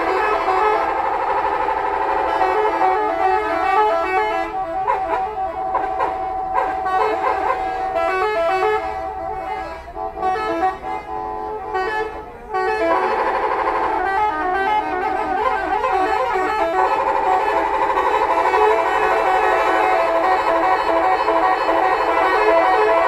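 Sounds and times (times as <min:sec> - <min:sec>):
musical air horns playing tunes: 0:00.0 - 0:23.0.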